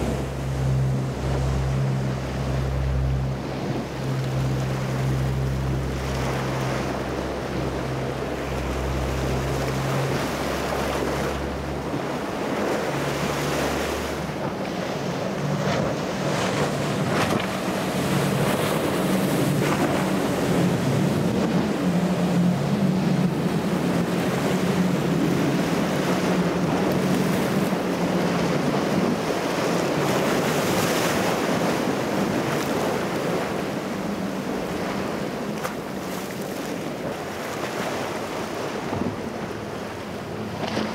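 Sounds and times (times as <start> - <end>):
boat engines humming: 0.0 - 40.9
waves breaking: 0.0 - 40.9.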